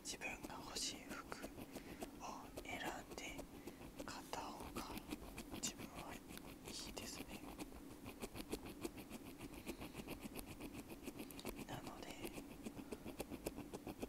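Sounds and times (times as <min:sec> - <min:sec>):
ear pick scratching earbud: 0:00.0 - 0:14.0.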